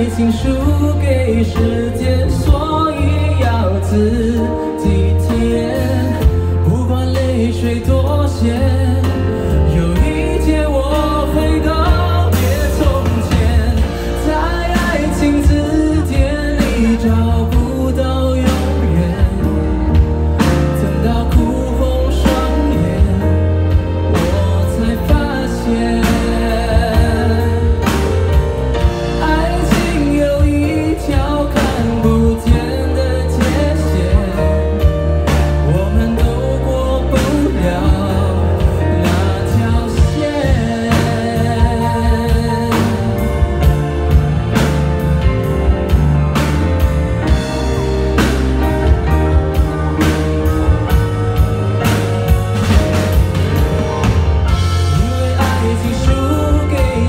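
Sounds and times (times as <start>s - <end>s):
live pop band: 0.0s - 57.0s
man singing lead vocal: 0.0s - 57.0s.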